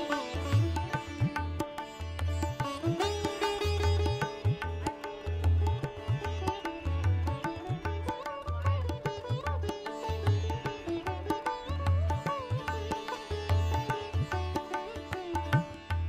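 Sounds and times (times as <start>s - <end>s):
plucked-string melody: 0.0s - 16.0s.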